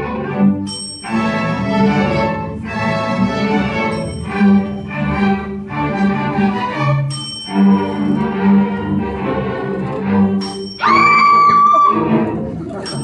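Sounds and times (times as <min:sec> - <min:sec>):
string orchestra playing: 0:00.0 - 0:13.0.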